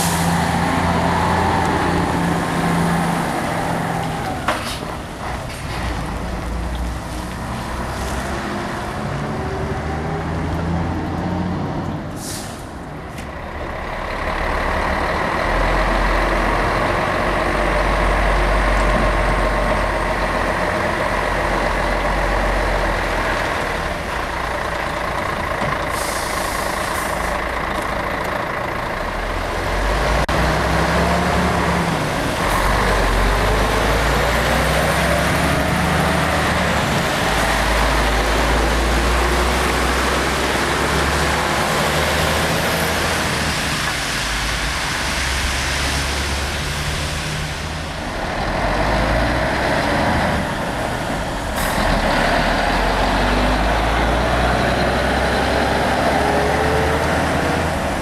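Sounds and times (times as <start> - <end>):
truck diesel engine revving: 0.0 - 58.0.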